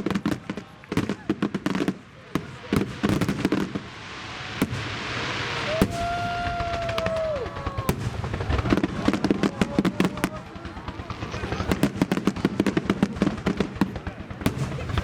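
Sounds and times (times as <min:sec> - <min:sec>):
firework hiss: 0:00.0 - 0:15.0
fireworks bangs: 0:00.0 - 0:15.0.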